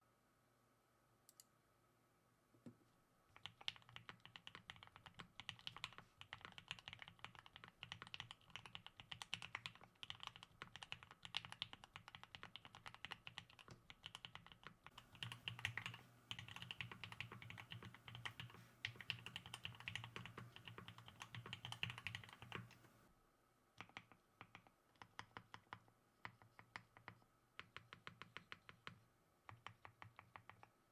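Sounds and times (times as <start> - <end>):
mechanical keyboard typing: 3.3 - 22.8, 23.8 - 30.7.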